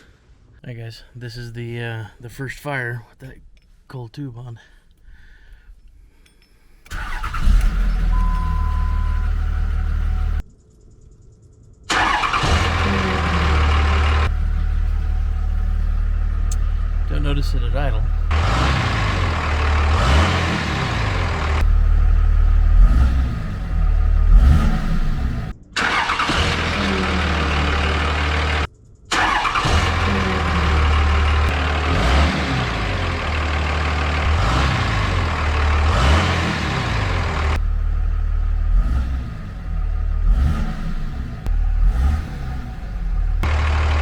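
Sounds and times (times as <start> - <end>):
diesel engine idling and revving: 6.9 - 10.4, 11.9 - 44.0.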